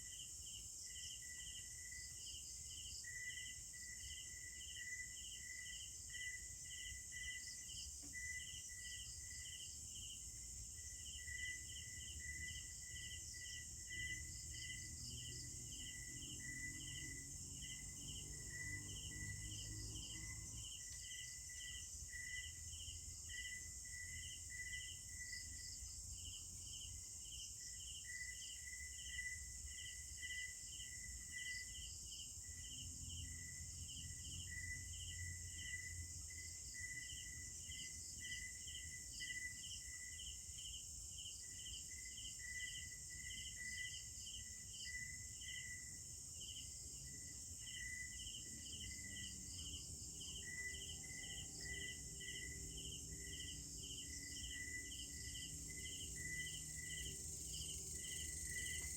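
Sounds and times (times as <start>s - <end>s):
high-pitched insect trill: 0.0s - 58.9s
pulsing insect chirping: 0.1s - 58.9s.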